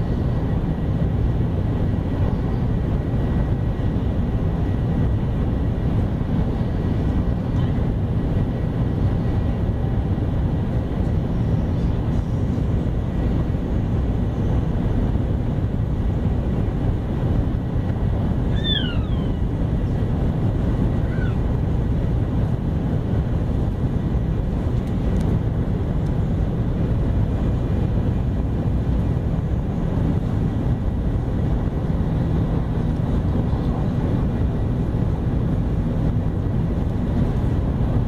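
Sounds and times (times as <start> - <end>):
train cabin rumble: 0.0 - 38.0.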